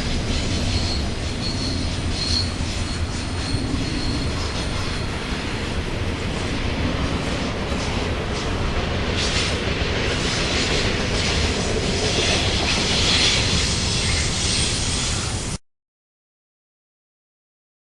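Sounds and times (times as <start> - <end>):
freight train wheels rumbling: 0.0 - 15.6.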